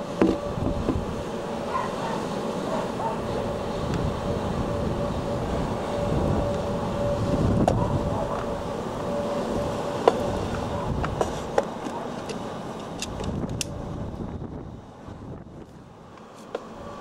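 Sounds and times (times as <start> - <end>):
blizzard wind buffeting: 0.0 - 17.0.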